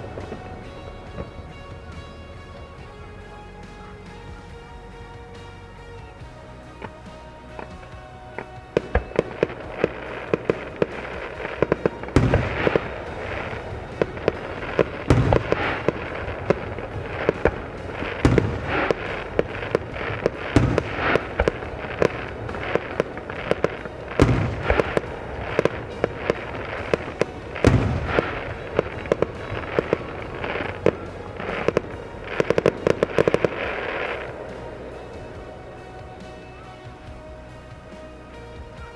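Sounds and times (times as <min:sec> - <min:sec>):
deep booms of shell bursts: 0:00.0 - 0:38.9
fireworks crackling and popping: 0:00.0 - 0:38.9.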